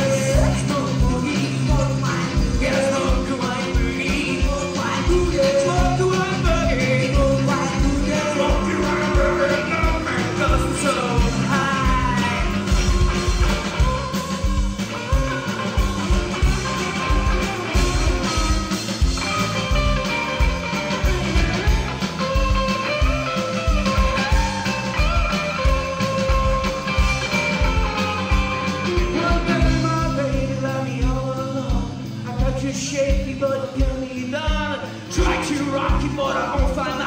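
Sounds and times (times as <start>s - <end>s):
drums keeping a steady beat: 0.0s - 37.0s
electric guitar lead with bending notes: 0.0s - 37.0s.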